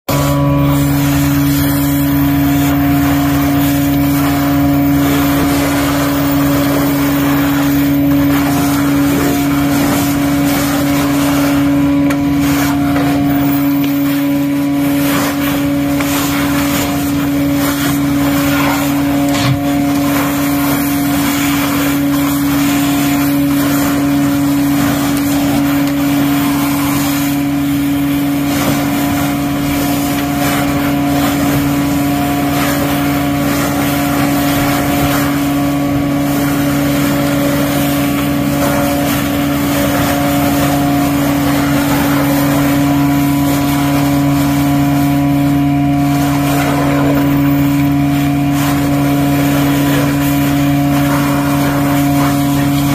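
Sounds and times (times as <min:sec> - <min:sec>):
hose suction rushing: 0:00.1 - 0:52.9
vacuum excavator mechanical hum: 0:00.1 - 0:52.9.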